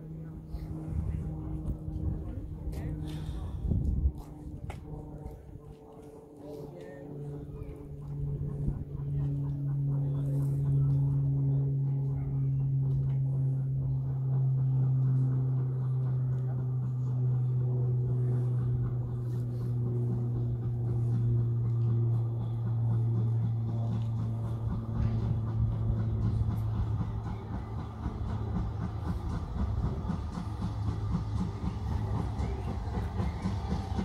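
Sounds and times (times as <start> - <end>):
low engine hum: 0.0 - 34.0
train rattling: 0.0 - 34.0.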